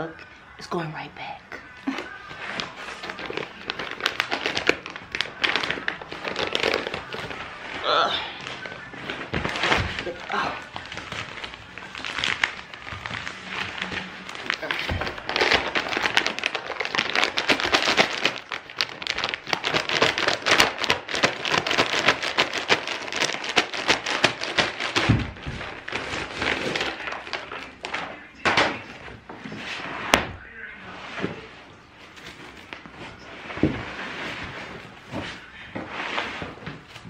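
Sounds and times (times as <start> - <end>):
plastic wrapping crinkling: 1.8 - 30.2, 31.8 - 37.0.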